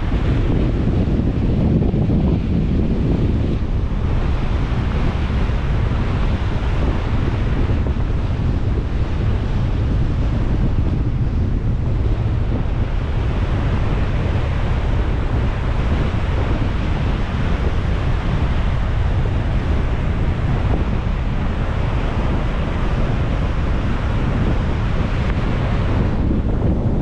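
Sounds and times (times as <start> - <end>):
heavy surf: 0.0 - 27.0
storm wind buffeting microphone: 0.0 - 27.0.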